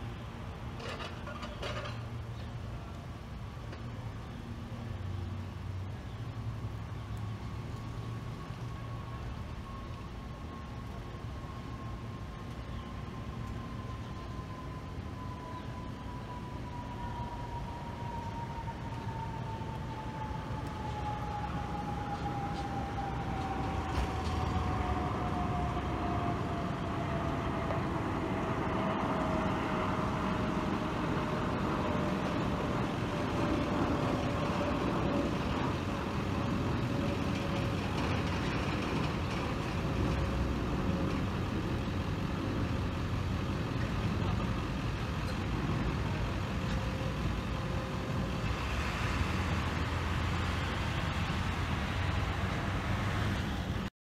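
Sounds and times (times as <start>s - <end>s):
vehicle engines idling and passing: 0.0s - 53.9s
distant siren winding down: 7.4s - 53.2s.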